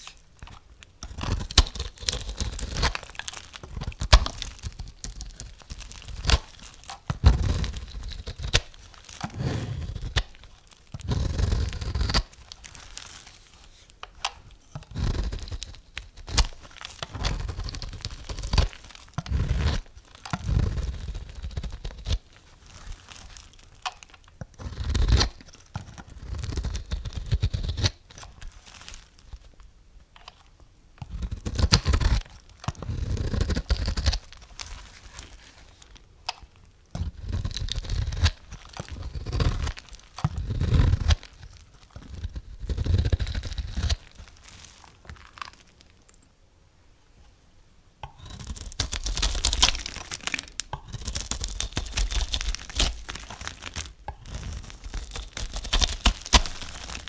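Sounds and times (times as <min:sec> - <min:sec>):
knife cutting bar soap: 0:00.0 - 0:29.5, 0:30.1 - 0:45.6, 0:48.0 - 0:57.0.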